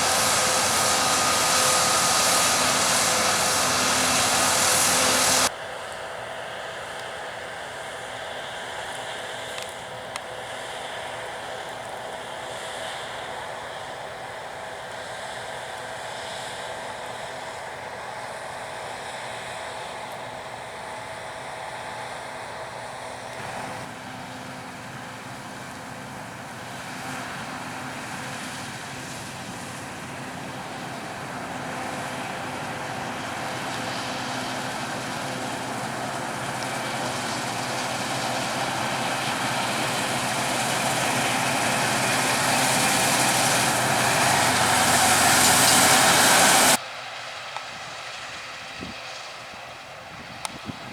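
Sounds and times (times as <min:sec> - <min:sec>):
farm machinery engine running: 0:00.0 - 0:05.5, 0:06.5 - 0:47.3.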